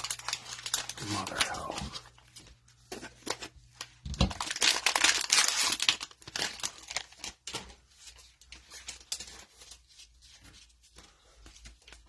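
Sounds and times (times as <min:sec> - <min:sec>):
cellophane wrapper crinkling: 0:00.0 - 0:10.0.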